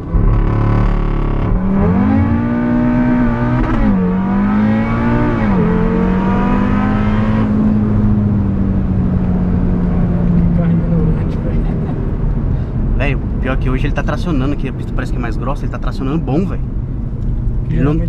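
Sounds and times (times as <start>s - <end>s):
car engine accelerating: 0.0s - 15.2s.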